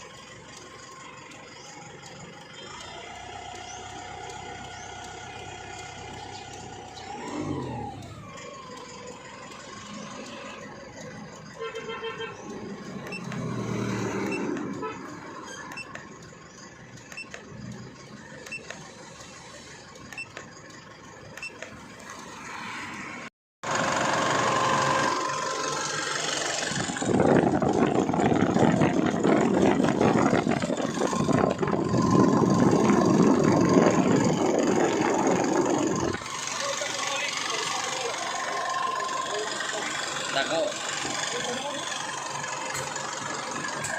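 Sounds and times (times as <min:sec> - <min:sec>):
faint engine ticking: 0:00.0 - 0:22.2, 0:23.6 - 0:43.9
diesel engine running: 0:00.0 - 0:43.9.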